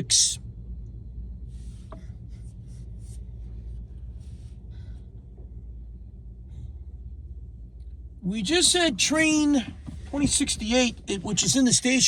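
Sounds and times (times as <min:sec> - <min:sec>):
low rumble of trains: 0:00.0 - 0:12.0.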